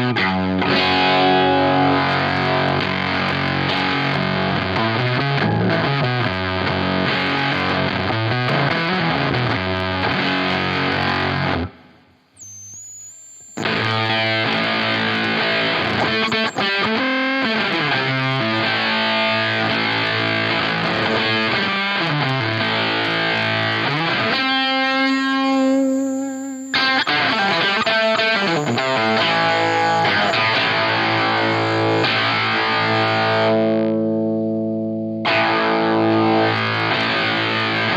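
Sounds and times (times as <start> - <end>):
fuzz-distorted electric guitar riffs: 0.0 - 37.9.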